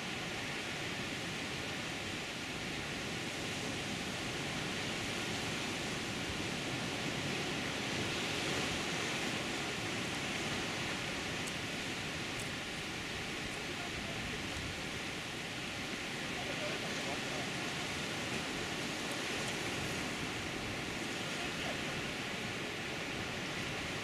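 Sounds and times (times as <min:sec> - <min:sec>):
ocean surf breaking on rocks: 0:00.0 - 0:24.0.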